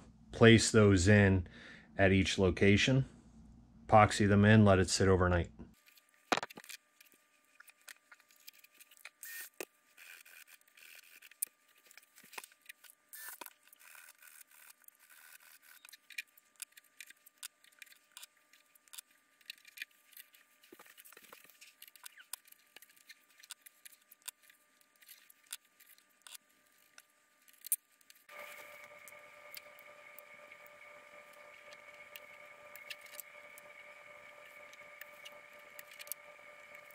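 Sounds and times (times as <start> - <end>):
faint steady hum: 0.0 - 36.9
small clicks and scrapes: 5.8 - 36.9.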